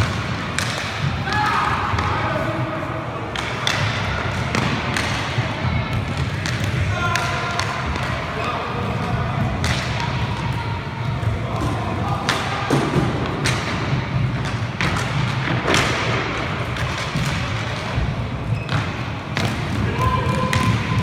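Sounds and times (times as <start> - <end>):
sticks striking puck: 0.0 - 2.2, 3.3 - 8.5, 9.6 - 10.6, 11.6 - 21.0
puck hitting rink boards: 0.0 - 21.0.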